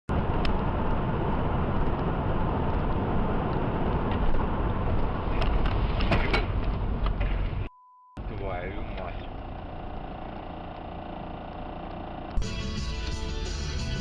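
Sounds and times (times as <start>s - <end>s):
car road and engine noise: 0.1s - 14.0s.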